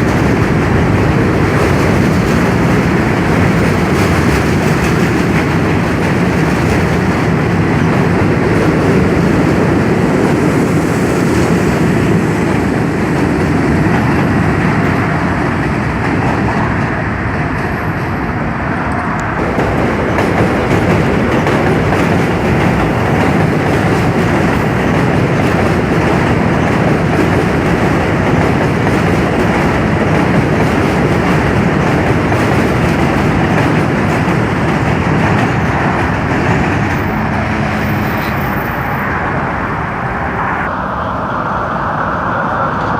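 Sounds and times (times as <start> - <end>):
wheels clattering on rail joints: 0.0 - 18.2, 19.2 - 39.8
subway train rumbling: 0.0 - 42.9.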